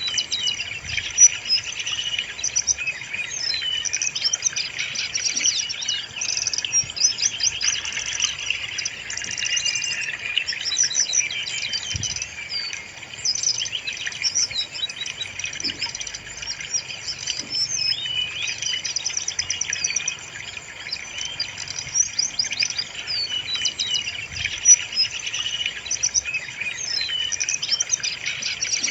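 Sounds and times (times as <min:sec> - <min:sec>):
bird singing chirps and trills: 0:00.0 - 0:28.9.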